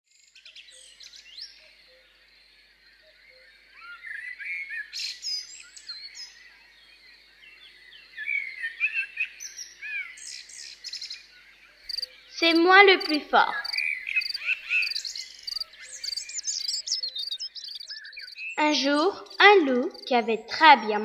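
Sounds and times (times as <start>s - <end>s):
songbirds chirping and singing: 0.3s - 21.0s.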